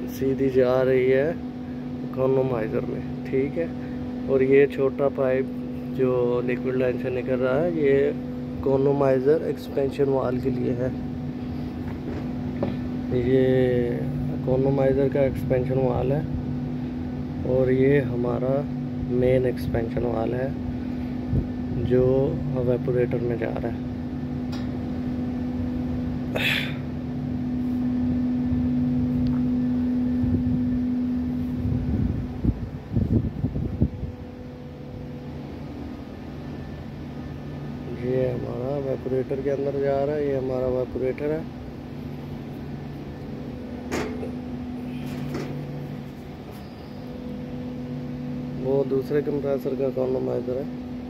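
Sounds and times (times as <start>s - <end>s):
chiller machine hum: 0.0s - 51.0s.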